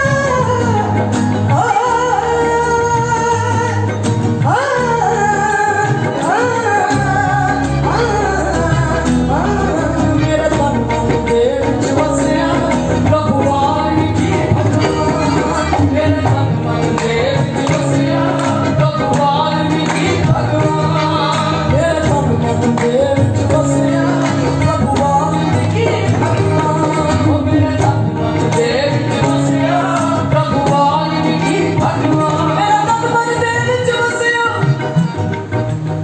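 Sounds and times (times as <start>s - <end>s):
woman singing into a microphone: 0.0s - 35.5s
hand percussion beat: 0.0s - 36.0s
harmonium held notes: 0.0s - 36.0s.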